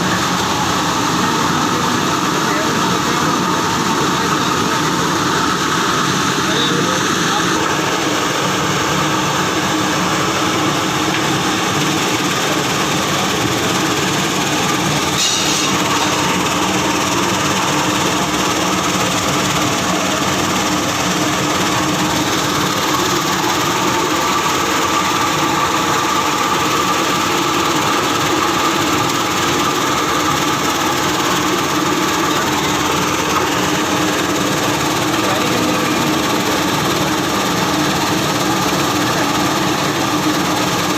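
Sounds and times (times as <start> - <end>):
machine motor humming: 0.0 - 40.9.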